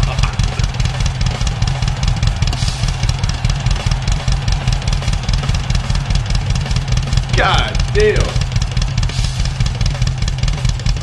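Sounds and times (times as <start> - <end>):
distorted heavy metal guitars: 0.0 - 11.0
pounding drums: 0.0 - 11.0.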